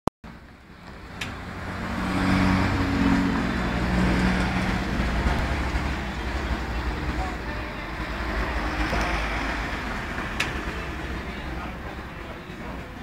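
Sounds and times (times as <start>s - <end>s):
car engine humming: 0.3s - 13.0s.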